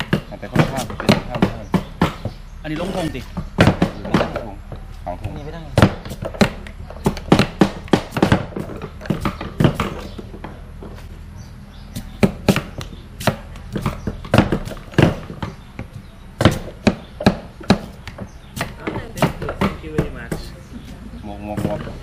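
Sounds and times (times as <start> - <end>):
blades chopping on wood: 0.0 - 11.1, 11.9 - 22.0.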